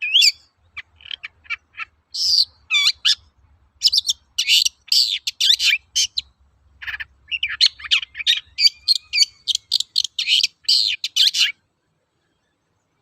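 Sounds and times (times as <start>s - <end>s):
bird chattering song: 0.0s - 11.6s.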